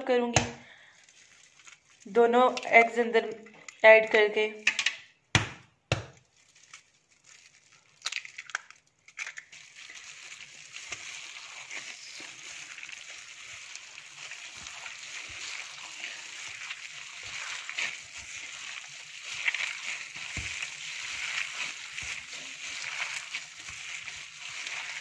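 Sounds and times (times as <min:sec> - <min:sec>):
plastic glove rustling: 0:00.2 - 0:03.8, 0:06.0 - 0:25.0
wet squishing of kneaded mince: 0:00.3 - 0:02.7, 0:06.0 - 0:25.0.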